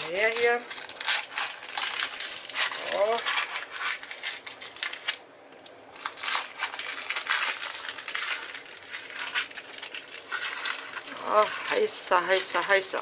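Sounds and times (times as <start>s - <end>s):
baking paper crinkling: 0.0s - 13.0s.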